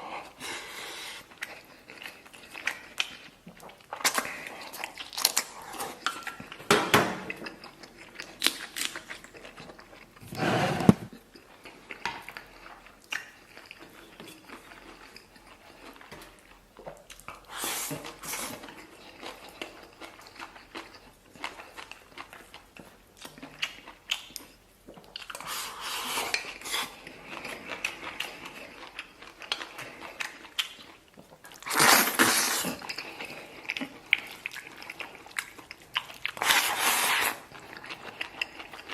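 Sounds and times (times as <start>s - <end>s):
person chewing: 0.0s - 38.9s.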